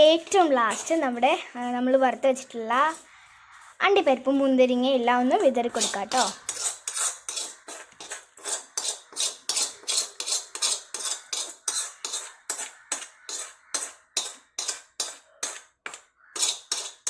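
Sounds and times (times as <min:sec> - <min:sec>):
spoon scraping a cooking pot: 0:00.1 - 0:03.8, 0:05.4 - 0:17.0.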